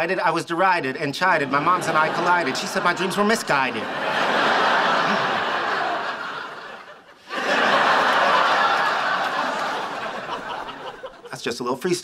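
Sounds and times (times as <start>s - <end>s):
studio audience laughing: 1.4s - 11.4s.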